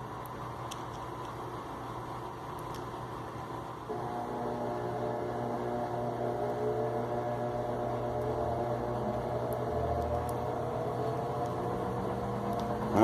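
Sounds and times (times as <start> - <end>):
washing machine spinning: 1.4 - 13.0.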